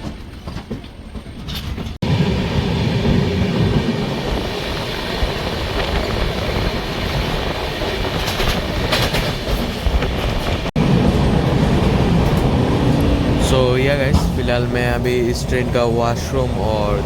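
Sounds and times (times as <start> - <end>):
clacks over rail joints: 0.0 - 2.0, 5.2 - 17.0
train wheels rumbling on track: 0.0 - 17.0.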